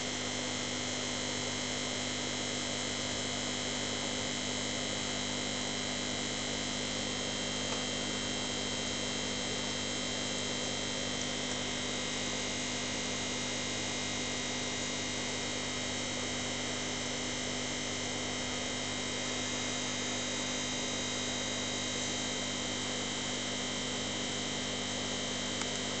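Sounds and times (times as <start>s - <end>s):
aquarium air pump humming: 0.0s - 26.0s.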